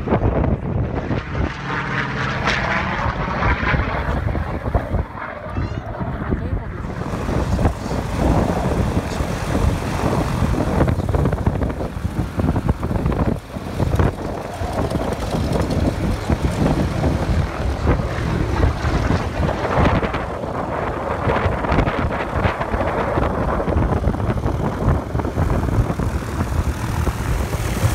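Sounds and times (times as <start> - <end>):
propeller aircraft engine: 0.0 - 27.9
wind buffeting microphone: 0.0 - 27.9.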